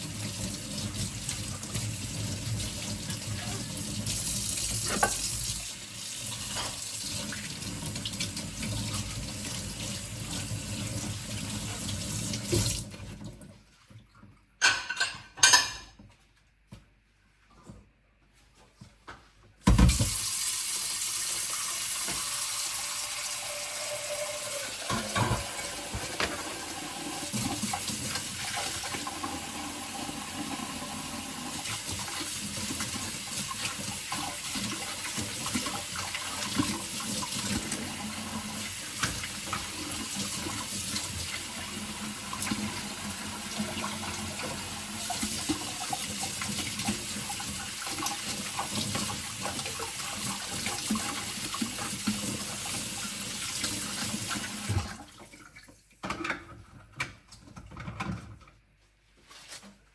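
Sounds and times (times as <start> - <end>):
tap water running into sink: 0.0 - 13.4, 19.6 - 56.4.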